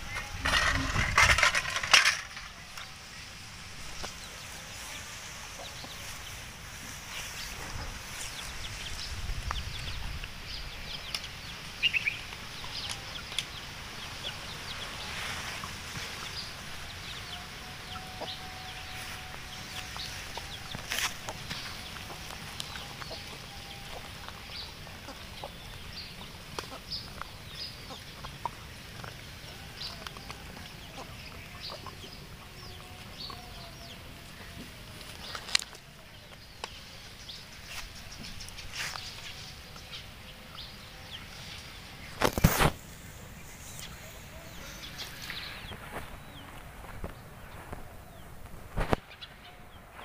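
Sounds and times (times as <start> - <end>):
grass rustling: 0.0 - 50.0.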